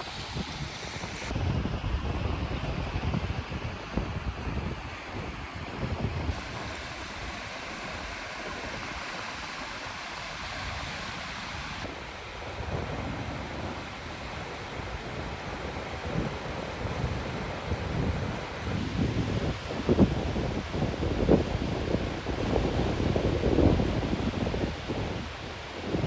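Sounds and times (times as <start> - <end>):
water washing on shore: 0.0 - 1.4, 5.8 - 26.0
wind gusting on microphone: 0.0 - 26.0.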